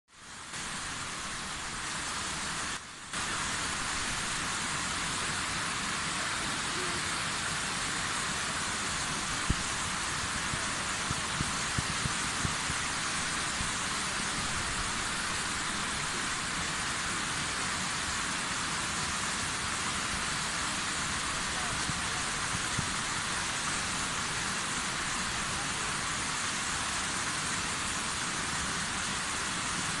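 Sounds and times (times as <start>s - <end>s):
waterfall rushing into pool: 0.1s - 30.0s.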